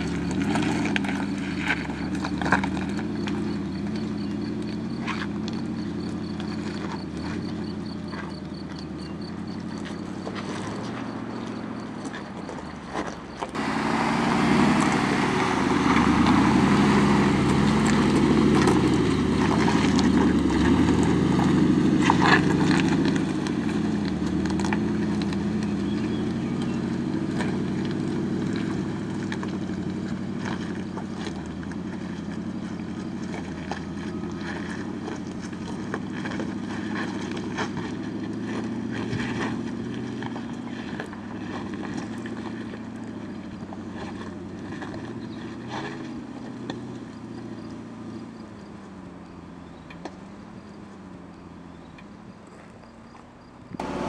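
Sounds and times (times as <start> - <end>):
vehicle engine running under load: 0.0 - 54.0.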